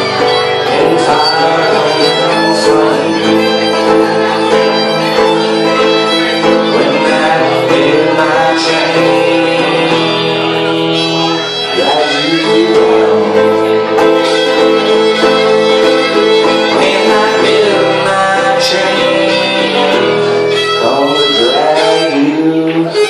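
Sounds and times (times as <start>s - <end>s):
fiddle melody: 0.0s - 23.0s
strummed resonator guitar: 0.0s - 23.0s.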